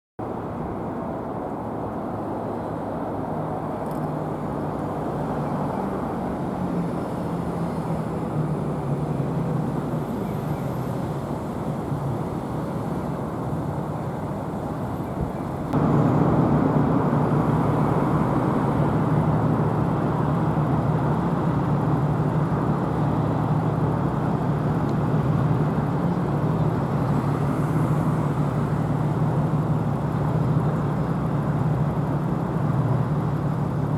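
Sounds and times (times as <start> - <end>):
vehicle engines humming: 0.2 - 33.9.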